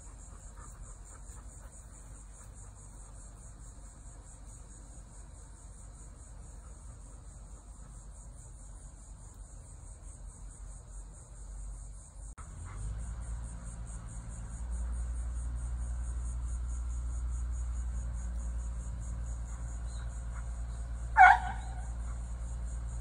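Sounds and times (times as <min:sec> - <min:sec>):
insect chorus trilling: 0:00.0 - 0:23.0.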